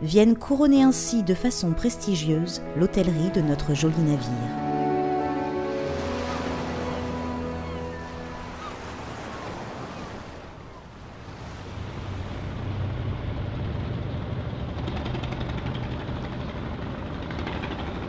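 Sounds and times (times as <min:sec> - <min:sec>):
boat engine rumbling: 0:00.0 - 0:18.0
water and wind noise: 0:00.4 - 0:18.0.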